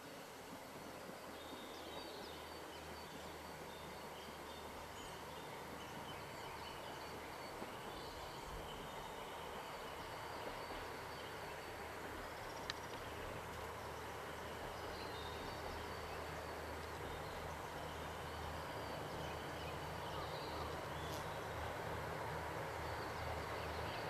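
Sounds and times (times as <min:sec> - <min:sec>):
birds chirping softly: 0:00.0 - 0:24.0
steady low hiss: 0:00.0 - 0:24.0.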